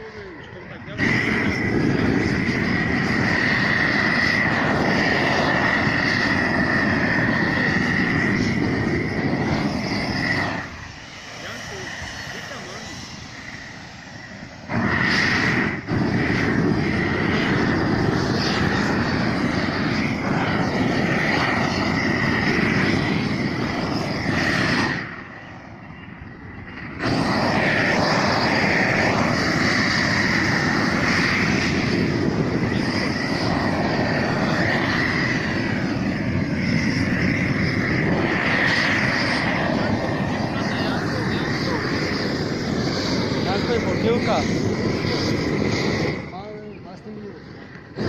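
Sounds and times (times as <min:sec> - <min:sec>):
loud machine roar: 0:00.0 - 0:48.0.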